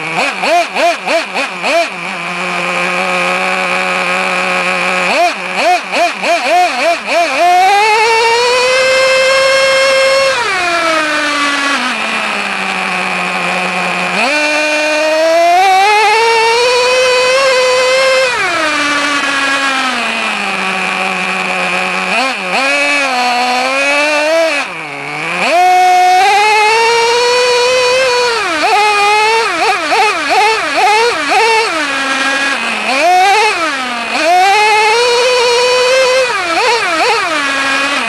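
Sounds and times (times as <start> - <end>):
small nitro engine revving: 0.0 - 38.0.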